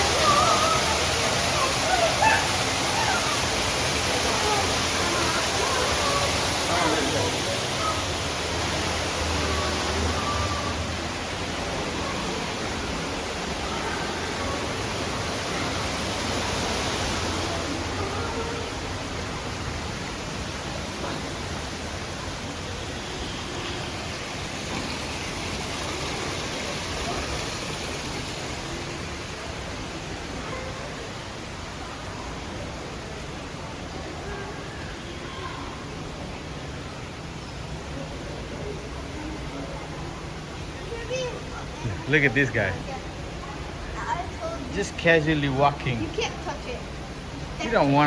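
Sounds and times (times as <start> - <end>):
faint voices: 0.0 - 48.0
steady rushing water: 0.0 - 48.0.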